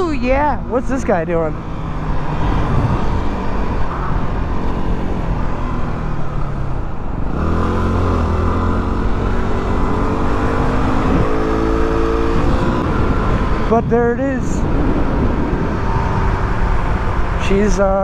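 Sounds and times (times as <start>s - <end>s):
motorcycle engine accelerating: 0.0s - 17.8s
wind and road noise: 0.0s - 18.0s.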